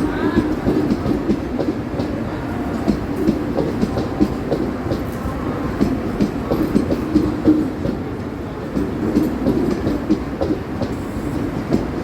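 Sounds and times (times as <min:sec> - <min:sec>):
electric train rumbling: 0:00.0 - 0:12.0
train wheels clacking on track: 0:00.0 - 0:12.0.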